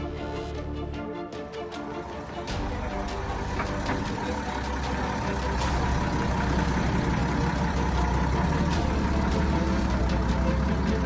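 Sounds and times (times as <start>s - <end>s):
petrol engine running: 0.0s - 11.0s.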